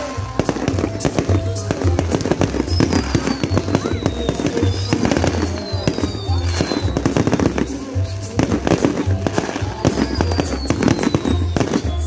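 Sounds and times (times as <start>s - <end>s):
fireworks bursting: 0.0s - 12.0s
loud music with heavy bass: 0.0s - 12.0s.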